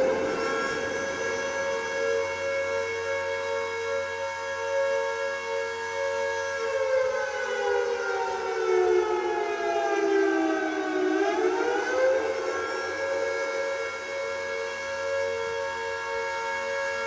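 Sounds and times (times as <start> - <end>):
air raid siren wailing: 0.0 - 17.0.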